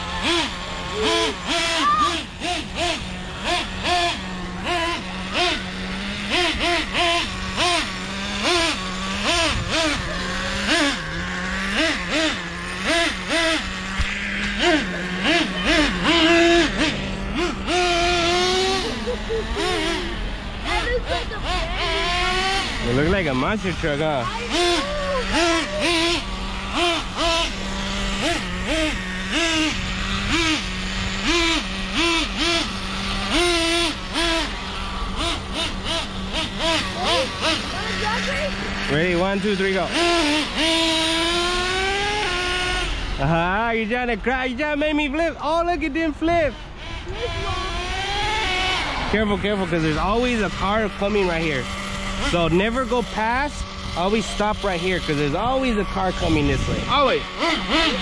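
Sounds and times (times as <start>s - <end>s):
engine throttle blips: 0.0s - 58.0s
small nitro engine idling: 0.0s - 58.0s.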